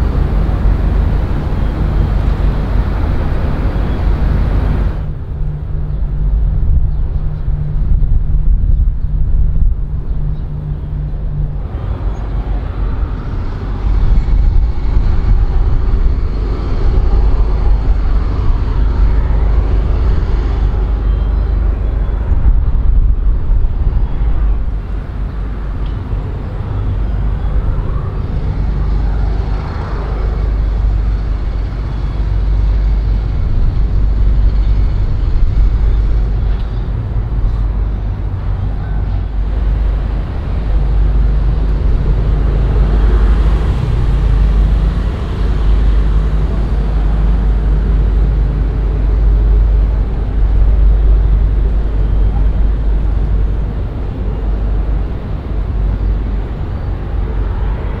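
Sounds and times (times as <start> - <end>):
low rumble of traffic: 0.0 - 58.0.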